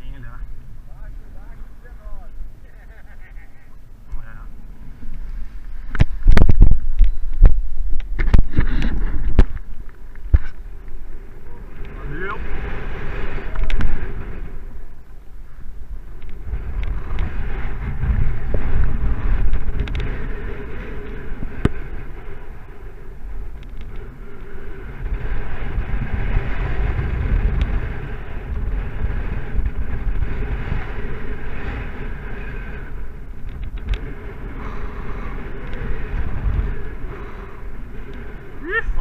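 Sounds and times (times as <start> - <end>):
gusting wind on microphone: 0.0 - 39.0.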